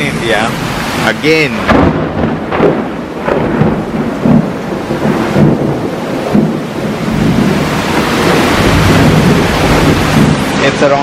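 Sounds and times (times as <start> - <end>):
heavy rain: 0.0 - 11.0
thunder rumbling: 0.0 - 11.0.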